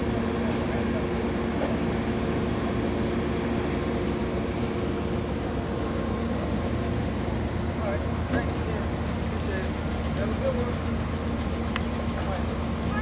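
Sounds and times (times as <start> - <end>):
train idling low hum: 0.0 - 13.0.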